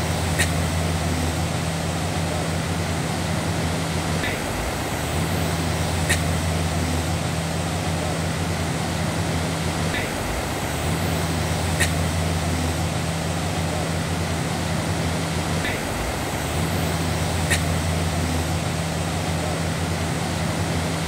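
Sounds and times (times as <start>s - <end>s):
river water rushing over rocks: 0.0s - 21.0s
vehicle engine humming: 0.0s - 21.0s.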